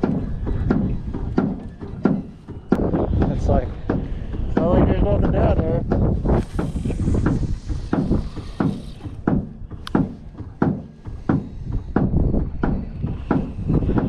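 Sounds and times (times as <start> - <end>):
waves slapping boat hull: 0.0 - 14.0
wind on microphone: 0.0 - 14.0.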